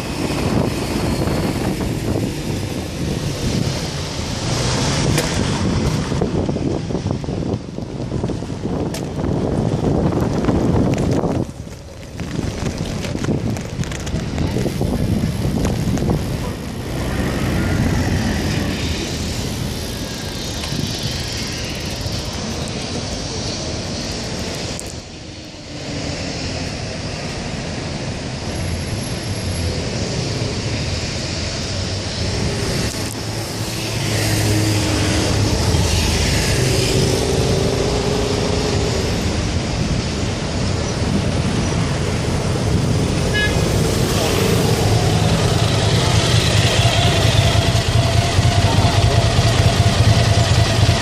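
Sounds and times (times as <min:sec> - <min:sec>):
road noise: 0:00.0 - 0:51.0
vehicle engines running: 0:00.0 - 0:51.0.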